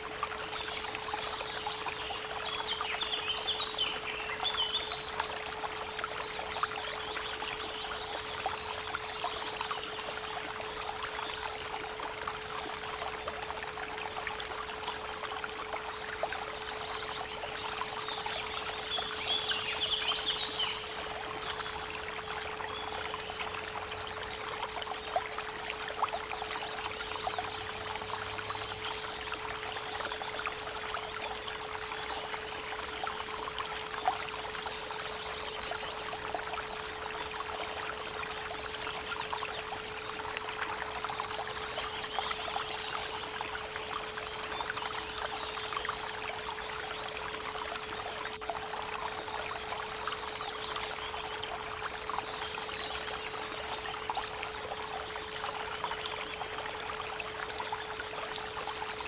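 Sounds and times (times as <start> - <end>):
creek babbling and splashing: 0.0 - 59.0.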